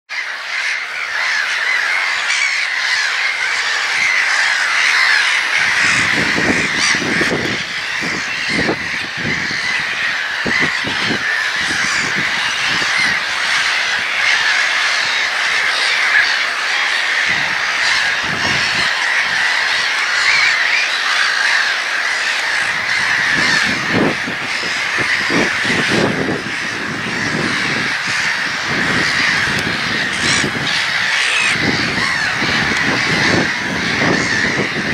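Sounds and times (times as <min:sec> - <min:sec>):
gulls calling: 0:00.1 - 0:34.9.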